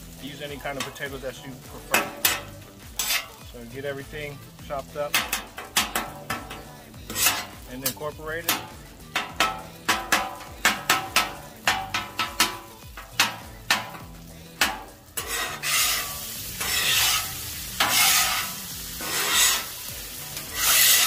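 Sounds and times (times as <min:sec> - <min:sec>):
food sizzling on griddle: 0:00.0 - 0:21.0
spatula scraping griddle: 0:00.0 - 0:21.0
metal spatulas clacking on griddle: 0:01.8 - 0:03.4, 0:05.0 - 0:21.0.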